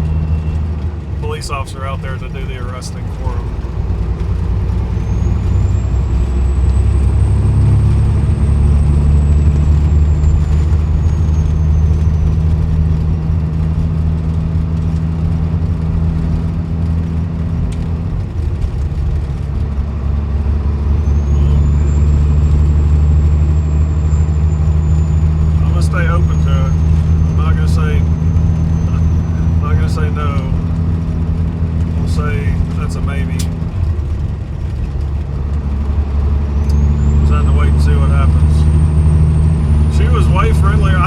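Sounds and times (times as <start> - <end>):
truck diesel engine drone: 0.0 - 41.0.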